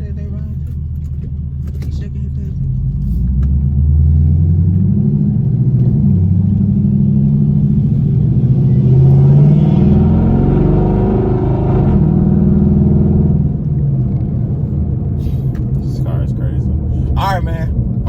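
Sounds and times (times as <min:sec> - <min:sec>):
loud deep car exhaust: 0:00.0 - 0:18.0.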